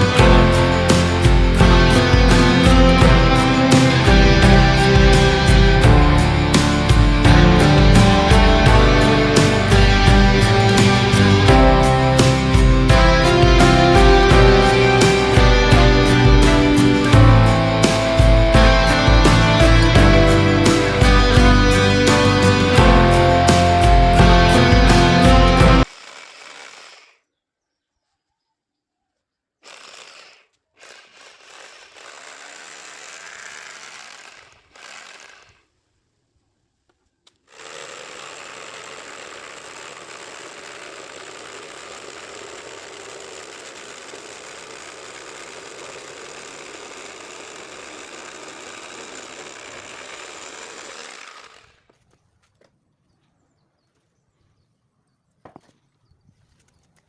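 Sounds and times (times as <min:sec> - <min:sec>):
saw mechanical chatter: 0:00.0 - 0:27.2, 0:29.6 - 0:35.6, 0:37.5 - 0:51.8.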